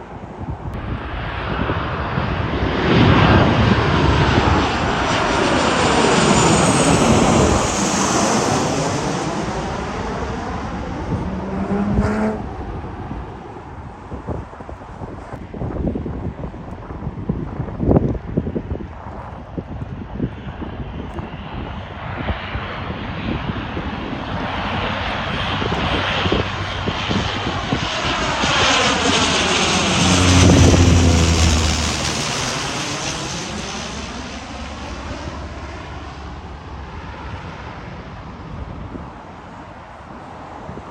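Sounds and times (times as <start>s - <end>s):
airliner engine passing: 0.0s - 40.9s.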